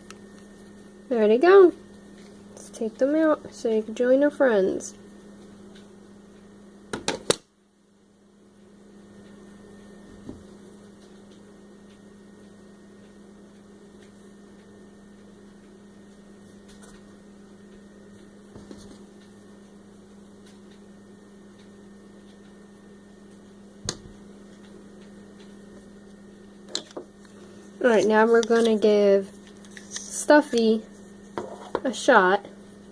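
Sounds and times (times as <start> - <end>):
electrical hum: 0.0 - 32.9.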